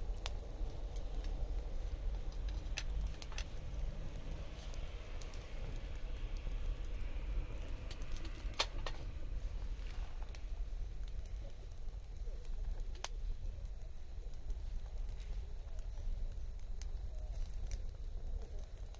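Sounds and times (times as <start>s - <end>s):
low steady rumble: 0.0s - 18.9s
wood fire crackling and popping: 0.0s - 18.9s.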